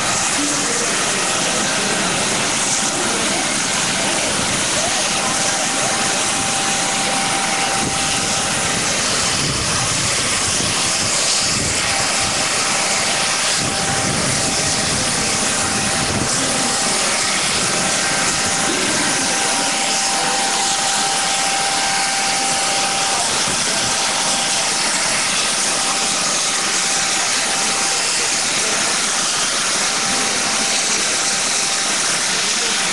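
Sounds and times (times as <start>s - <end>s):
aircraft engine with thin whine: 0.0s - 32.9s.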